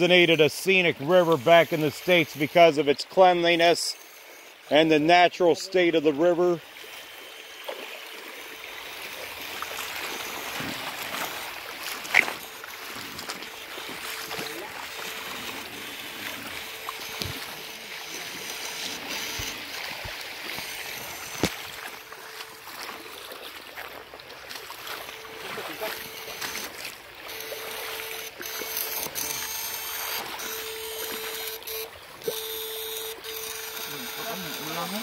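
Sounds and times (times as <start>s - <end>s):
river running over stones: 0.0s - 33.2s
faint steady hum: 0.0s - 35.0s
people wading and splashing: 0.0s - 35.0s.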